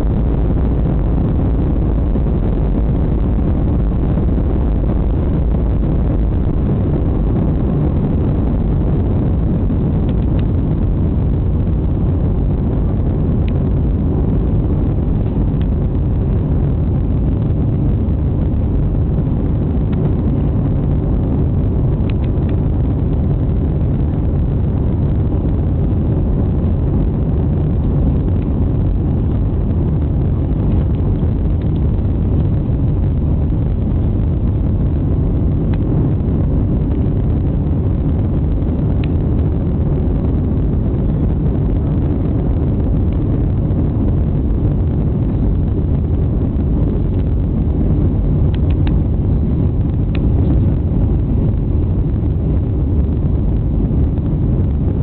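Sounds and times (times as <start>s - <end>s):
airflow noise: 0.0s - 55.0s
jet engines rumbling: 0.0s - 55.0s.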